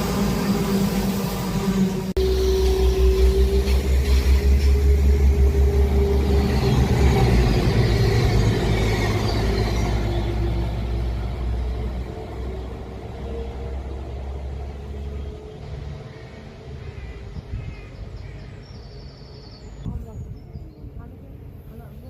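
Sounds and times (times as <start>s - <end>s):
train passing: 0.0s - 18.2s.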